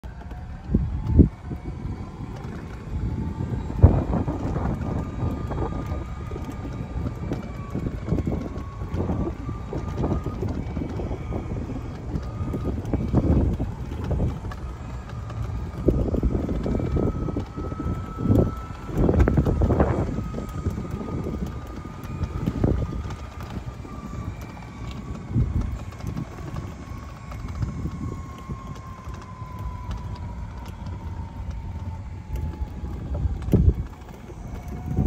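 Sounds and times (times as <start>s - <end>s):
faint whine: 0.0s - 35.0s
vehicle rumble: 0.0s - 35.0s
wind buffeting microphone: 0.0s - 35.0s.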